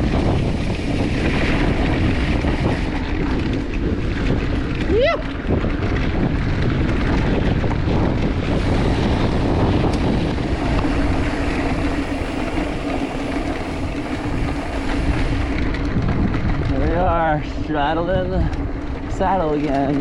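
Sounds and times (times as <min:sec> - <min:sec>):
bike tyres on gravel: 0:00.0 - 0:20.0
wind buffeting microphone: 0:00.0 - 0:20.0.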